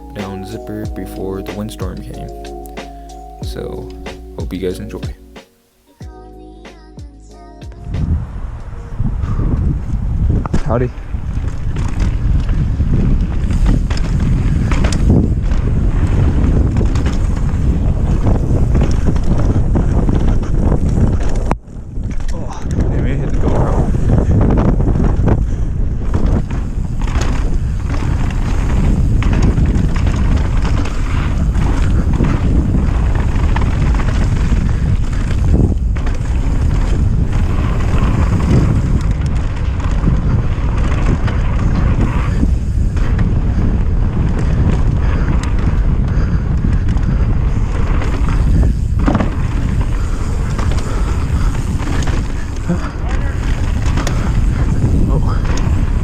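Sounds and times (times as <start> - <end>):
wind buffeting microphone: 7.7 - 56.0
tyre noise on dirt: 10.3 - 56.0
bike knocks and rattles: 10.4 - 56.0.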